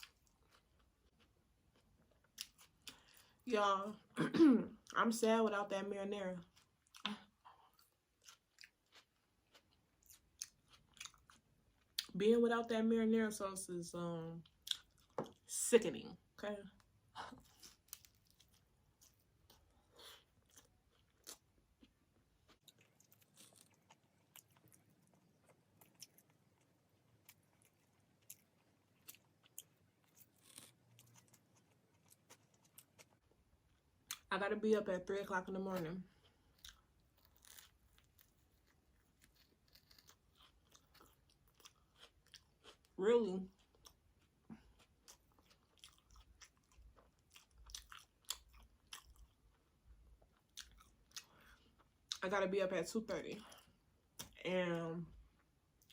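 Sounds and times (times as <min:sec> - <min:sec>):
chewing and crunching food: 0:00.0 - 0:03.5, 0:04.8 - 0:12.2, 0:14.3 - 0:15.5, 0:16.7 - 0:34.3, 0:35.3 - 0:52.3, 0:53.1 - 0:54.5, 0:55.1 - 0:55.9.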